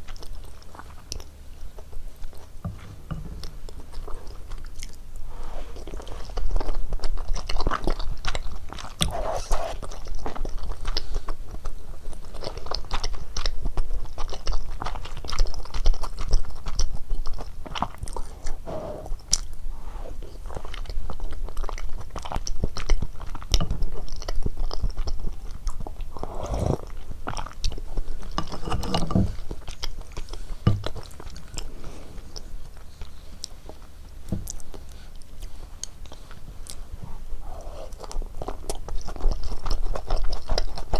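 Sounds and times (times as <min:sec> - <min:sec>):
chewing and biting food: 0:00.0 - 0:19.6, 0:20.2 - 0:40.9.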